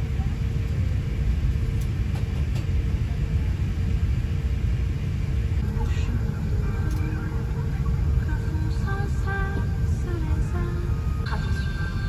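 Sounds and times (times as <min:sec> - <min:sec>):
airliner cabin low rumble: 0:00.0 - 0:12.0
faint steady hum: 0:00.0 - 0:12.0.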